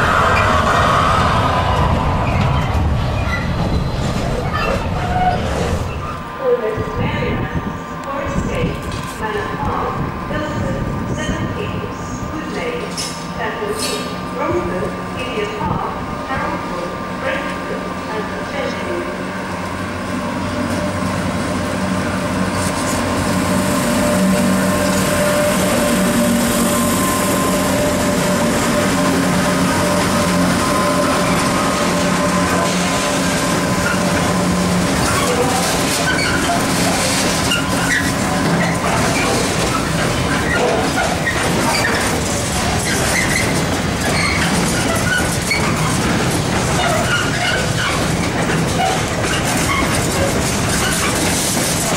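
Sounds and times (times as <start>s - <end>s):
wheel-on-rail noise: 0.0s - 13.2s, 13.9s - 51.9s.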